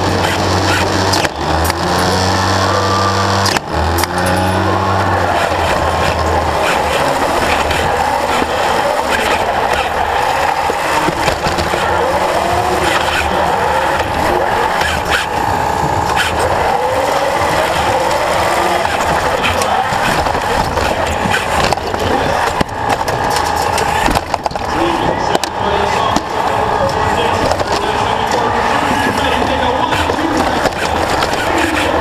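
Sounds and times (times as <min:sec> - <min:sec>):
arena crowd noise: 0:00.0 - 0:32.0
robot electric motors whining: 0:00.0 - 0:32.0.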